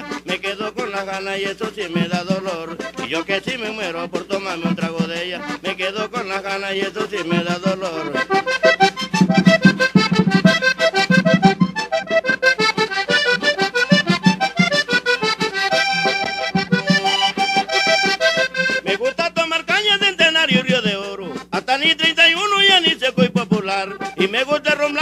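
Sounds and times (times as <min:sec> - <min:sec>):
button accordion melody: 0:00.0 - 0:25.0
percussion beat: 0:00.0 - 0:25.0.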